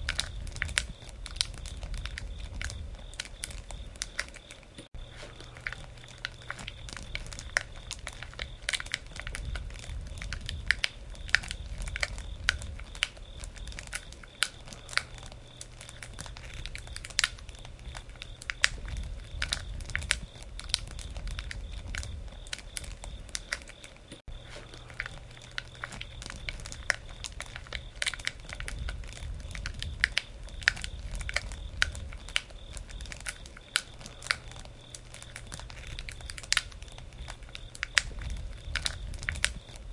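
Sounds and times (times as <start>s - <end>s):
campfire crackling and popping: 0.0s - 39.9s
low rushing of flames: 0.0s - 39.9s.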